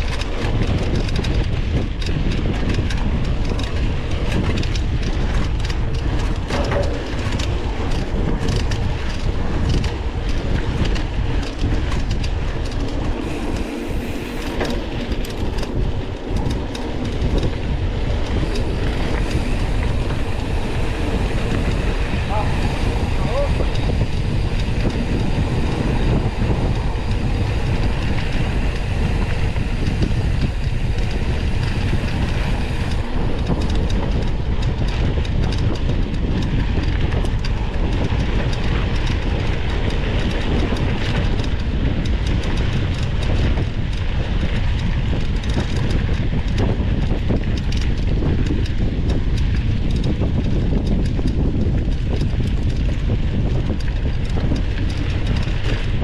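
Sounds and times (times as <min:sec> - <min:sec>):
mountain bike rattling: 0:00.0 - 0:56.0
wind on microphone: 0:00.0 - 0:56.0.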